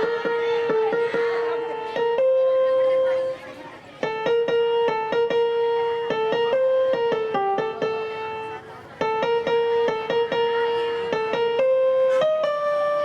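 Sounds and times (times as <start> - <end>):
electronic keyboard melody: 0.0 - 13.0.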